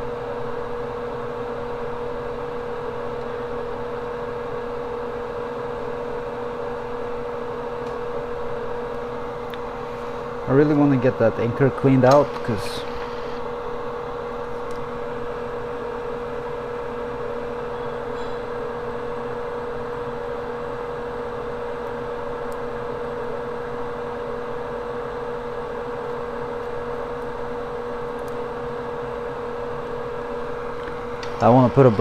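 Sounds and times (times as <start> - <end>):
fan-driven machine humming: 0.0 - 32.0.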